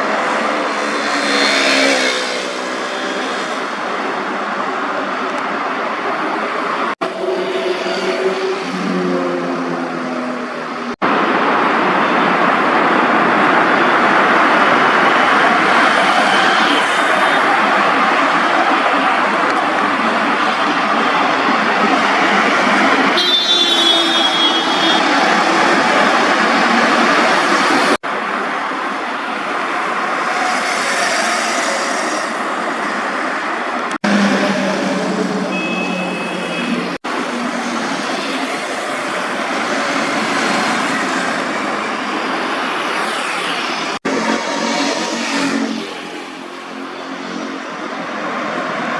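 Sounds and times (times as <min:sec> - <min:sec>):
loud rushing noise: 0:00.0 - 0:48.9
road traffic noise: 0:00.0 - 0:48.9.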